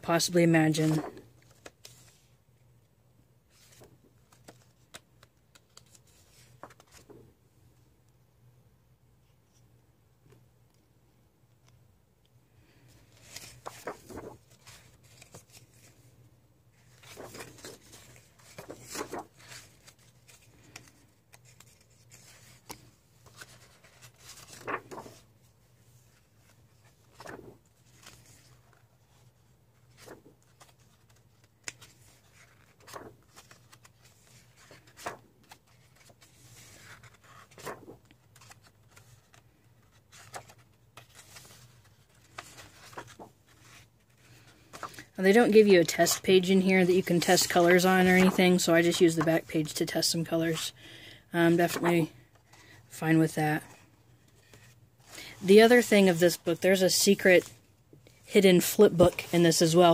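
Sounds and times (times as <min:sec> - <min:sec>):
book pages turning: 0:00.5 - 0:02.3, 0:03.5 - 0:07.3, 0:12.8 - 0:16.1, 0:16.8 - 0:50.7, 0:51.4 - 0:52.9, 0:53.6 - 0:59.9.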